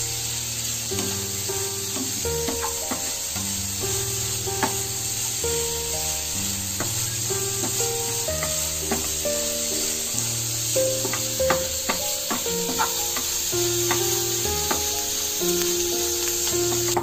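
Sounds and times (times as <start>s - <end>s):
food sizzling in hot oil: 0.0s - 17.0s
spatula stirring against pan: 0.6s - 17.0s.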